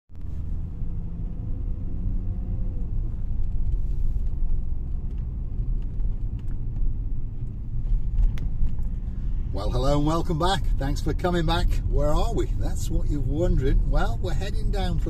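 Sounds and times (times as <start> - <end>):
car engine and road rumble: 0.1 - 15.0.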